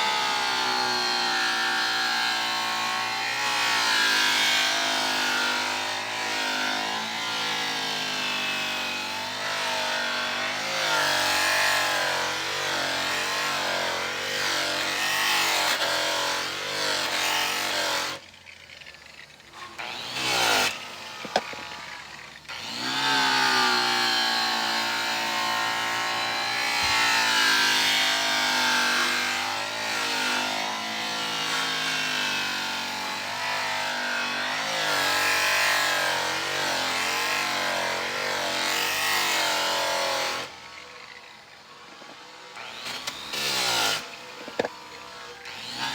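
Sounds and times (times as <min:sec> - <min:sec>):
electric polisher motor whine: 0:00.0 - 0:45.9.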